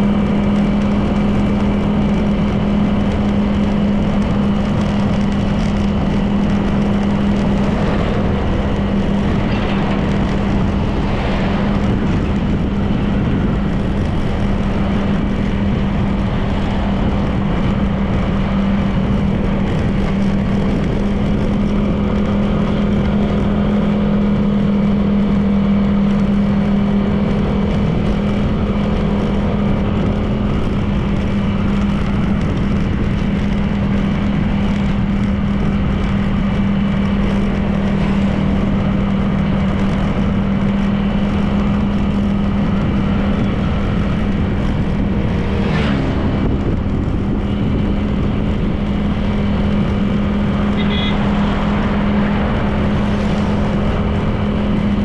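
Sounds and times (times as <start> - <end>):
road and wind noise: 0.0 - 55.0
scooter engine running: 0.0 - 55.0.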